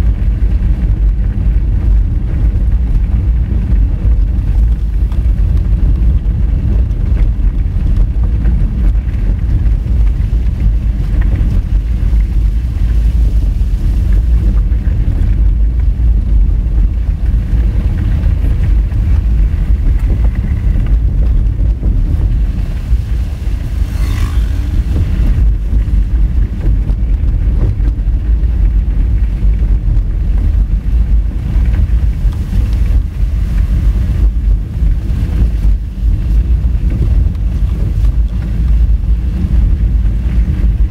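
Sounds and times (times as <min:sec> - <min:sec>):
car engine: 0:00.0 - 0:38.4
tyres rumbling on gravel: 0:00.0 - 0:40.9
wind buffeting microphone: 0:00.0 - 0:40.9.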